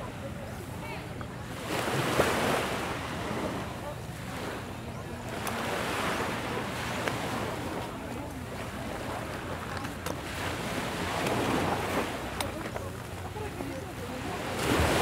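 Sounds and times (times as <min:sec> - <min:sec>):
surf washing on shore: 0:00.0 - 0:15.0.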